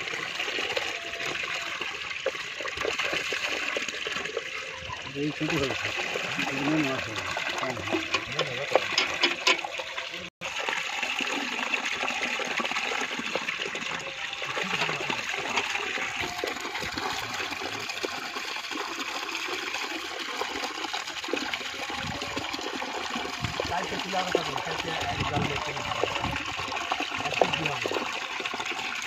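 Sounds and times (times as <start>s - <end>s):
water flowing: 0.0s - 29.0s.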